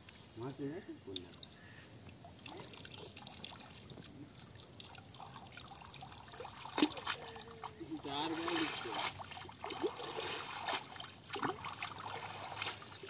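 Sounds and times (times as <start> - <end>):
water dripping off a net: 1.1 - 13.0
water splash: 2.3 - 13.0.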